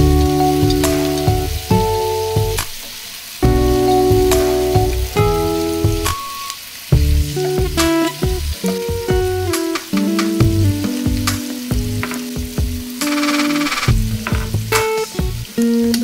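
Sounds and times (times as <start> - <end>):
background music of held notes: 0.0 - 2.7, 3.4 - 16.0
chicken and onions sizzling: 0.0 - 16.0.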